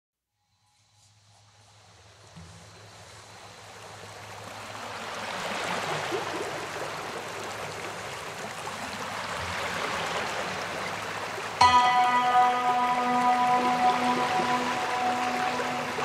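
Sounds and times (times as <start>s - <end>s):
running water: 2.3s - 16.0s.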